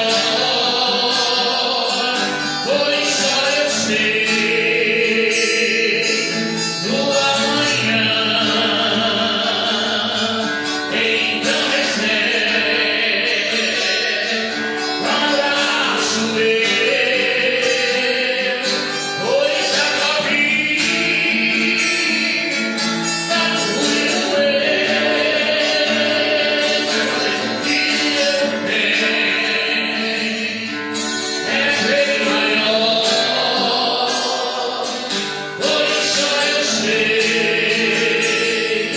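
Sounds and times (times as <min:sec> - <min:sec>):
voices singing a hymn: 0:00.0 - 0:38.9.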